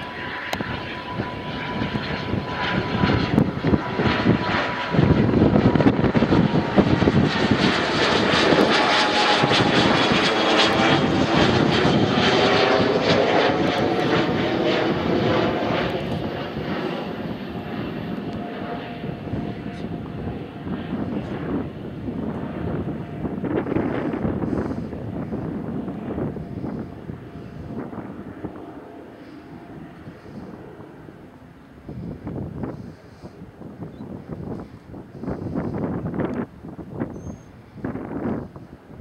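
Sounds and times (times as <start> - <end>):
jet flying overhead: 0.0 - 39.0.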